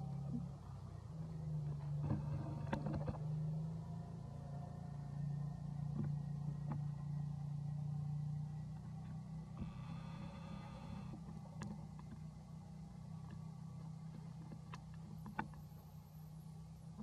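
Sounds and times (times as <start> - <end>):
steady low motor hum: 0.0 - 17.0.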